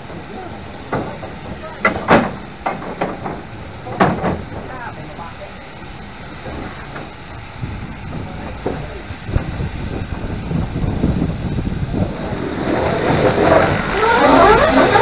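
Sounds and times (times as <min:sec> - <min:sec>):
low locomotive rumble: 0:00.0 - 0:15.0
steam hissing: 0:00.0 - 0:15.0.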